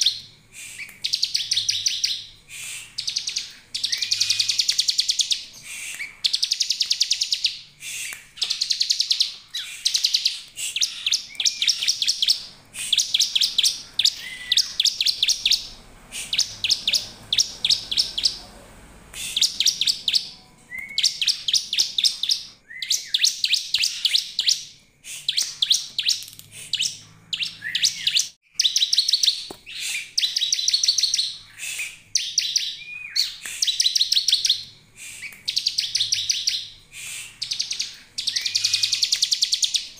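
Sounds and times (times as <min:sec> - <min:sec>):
bird calling with clicking trills: 0:00.0 - 0:18.5, 0:19.1 - 0:24.7, 0:25.4 - 0:39.9.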